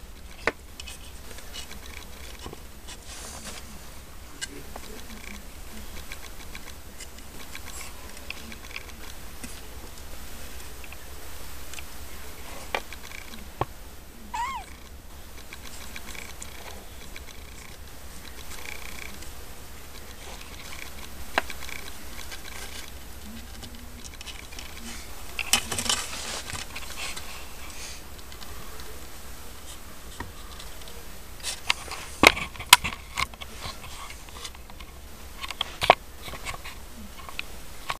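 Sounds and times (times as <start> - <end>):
kittens scuffling: 0.0 - 37.9
steady low hum: 0.0 - 37.9.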